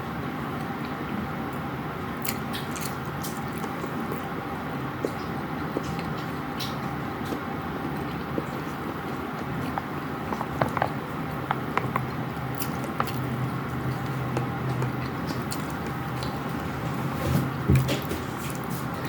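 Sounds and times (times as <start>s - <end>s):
steady low hum: 0.0s - 19.0s
person chewing: 2.2s - 19.0s.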